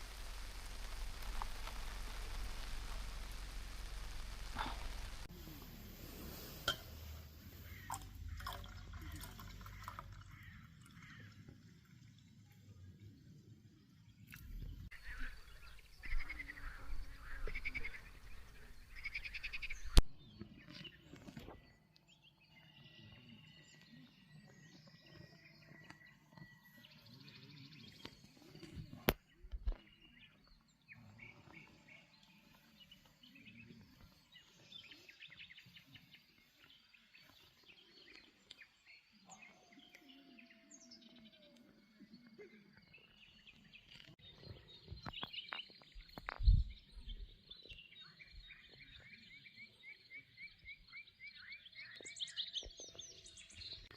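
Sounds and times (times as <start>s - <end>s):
wild birds calling and chirping: 0.2s - 11.5s, 14.6s - 53.9s.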